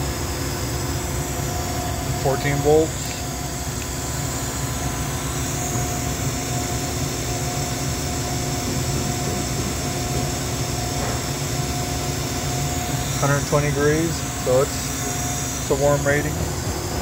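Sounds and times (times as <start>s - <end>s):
machine hum with high whine: 0.0s - 17.0s.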